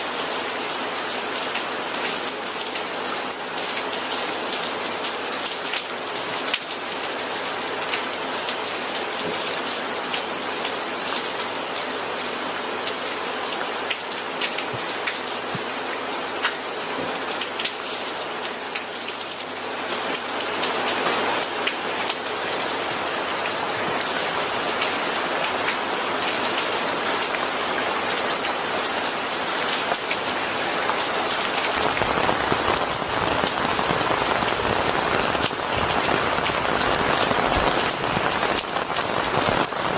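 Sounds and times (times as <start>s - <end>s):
steady rain with drops ticking: 0.0s - 39.9s.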